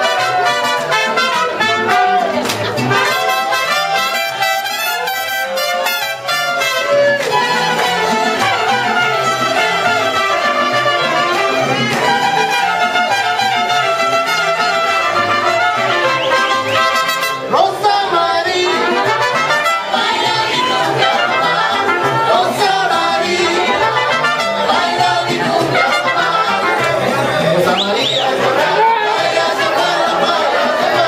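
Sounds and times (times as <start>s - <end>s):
mariachi band playing: 0.0s - 31.0s
strummed guitars: 0.0s - 31.0s.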